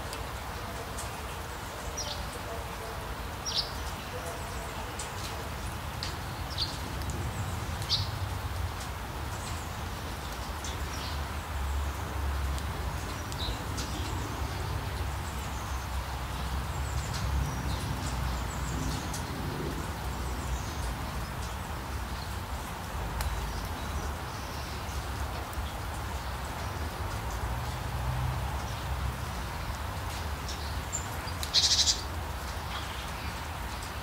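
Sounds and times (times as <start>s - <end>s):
rain hiss: 0.0s - 34.0s.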